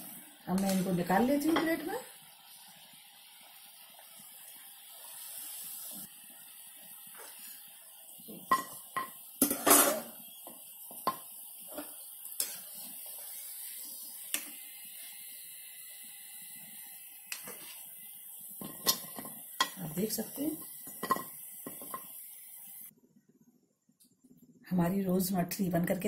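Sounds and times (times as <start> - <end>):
faint oil sizzle: 0.0 - 22.9.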